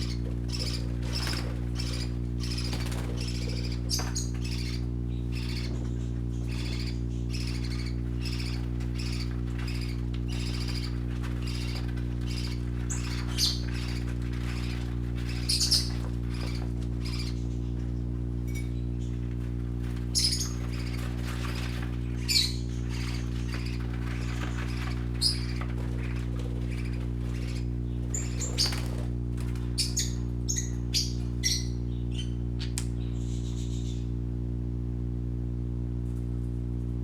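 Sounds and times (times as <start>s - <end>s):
parakeets chirping and squawking: 0.0s - 34.1s
steady low hum: 0.0s - 37.0s.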